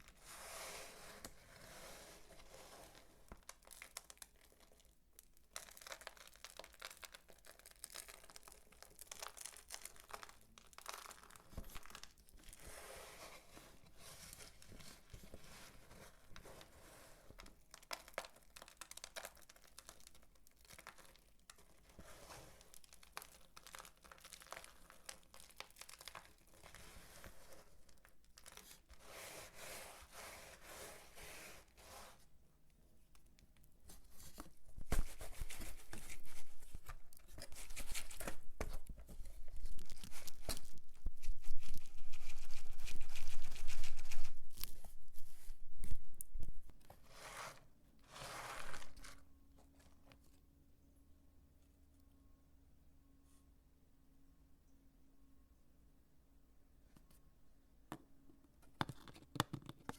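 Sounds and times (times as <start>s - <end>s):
dry soap crackling and crunching: 0.0s - 50.6s.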